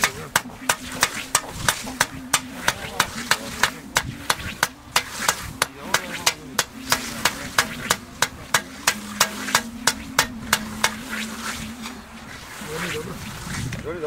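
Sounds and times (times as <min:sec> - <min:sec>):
voices talking: 0:00.0 - 0:14.0.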